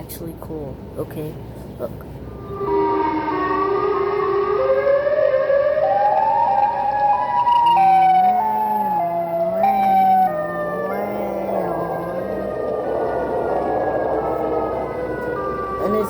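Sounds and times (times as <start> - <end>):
eerie siren-like creature wail: 2.4 - 16.0.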